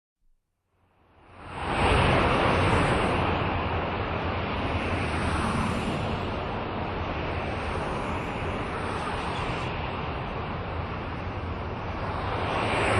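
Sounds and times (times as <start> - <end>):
cars passing on road: 1.1 - 12.9.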